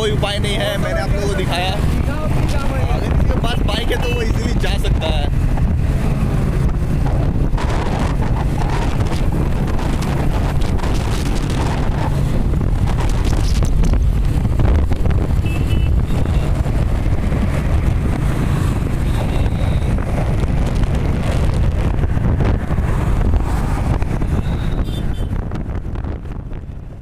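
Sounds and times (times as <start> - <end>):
low rumble of road traffic: 0.0 - 27.0
wind buffeting microphone: 0.0 - 27.0.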